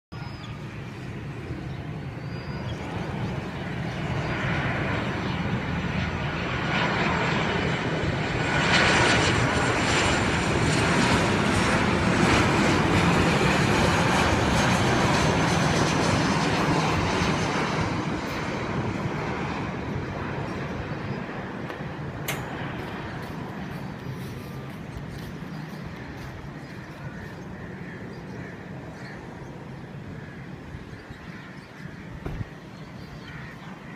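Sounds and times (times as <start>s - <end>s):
faint engine whine: 0.2s - 33.9s
jet engines rushing past: 0.2s - 33.9s.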